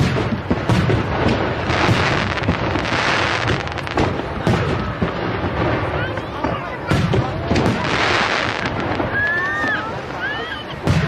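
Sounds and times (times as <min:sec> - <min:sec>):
fireworks bursting with cracks: 0:00.0 - 0:11.0
fireworks crackling: 0:00.0 - 0:11.0.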